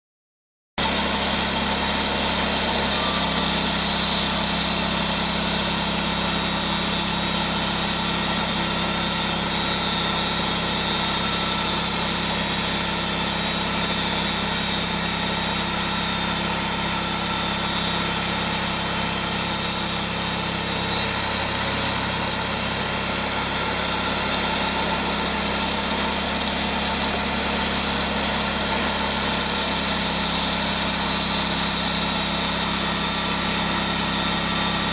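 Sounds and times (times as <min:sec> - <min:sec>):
sawmill engine running: 0:00.8 - 0:34.9.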